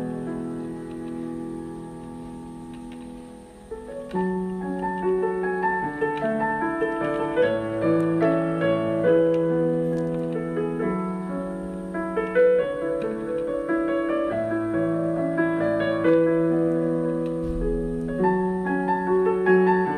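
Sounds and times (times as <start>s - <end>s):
piano melody over chords: 0.0s - 19.9s.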